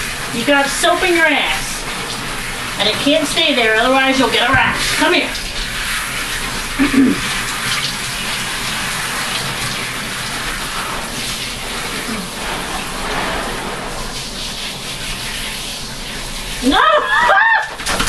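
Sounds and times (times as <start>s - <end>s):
shower sprayer running: 0.0s - 18.0s
water splashing into bathtub: 0.0s - 18.0s.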